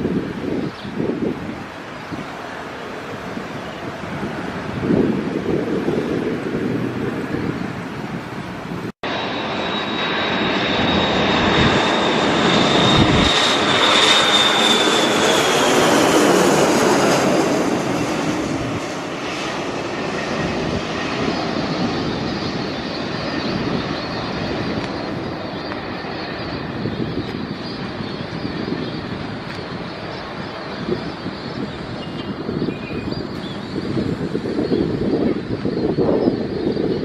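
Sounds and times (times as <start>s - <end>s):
jet airliner passing: 0.0s - 37.0s
wind on microphone: 0.0s - 37.0s.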